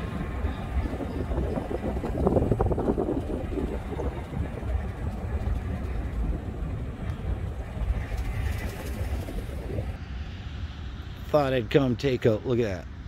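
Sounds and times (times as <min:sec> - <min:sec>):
vehicle rumbling slowly: 0:00.0 - 0:13.0.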